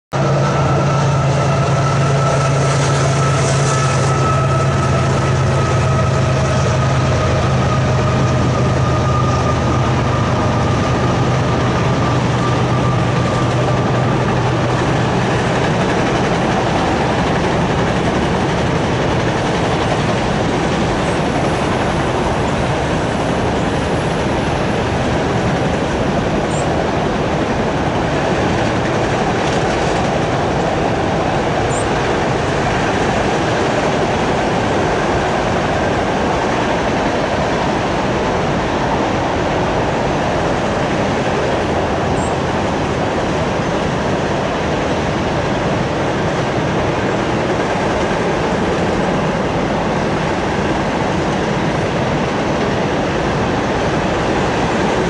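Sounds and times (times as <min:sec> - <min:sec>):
rumble of steel wheels on rail: 0:00.1 - 0:55.0.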